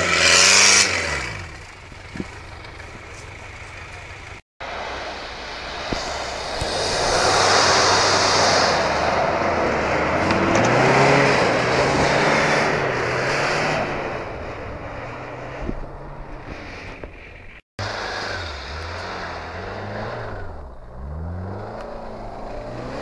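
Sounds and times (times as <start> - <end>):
suv engine under load: 0.0 - 23.0.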